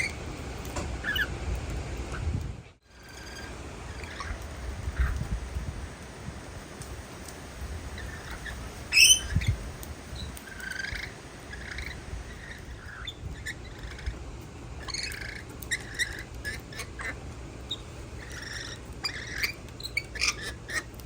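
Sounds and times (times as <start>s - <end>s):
birds chirping: 1.0s - 1.4s, 2.9s - 5.9s, 7.0s - 21.0s.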